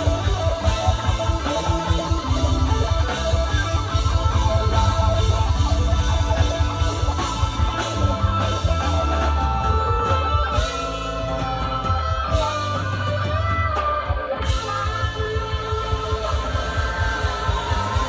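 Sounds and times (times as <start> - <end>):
electric guitar bending notes: 0.0 - 18.0
live rock band playing: 0.0 - 18.0.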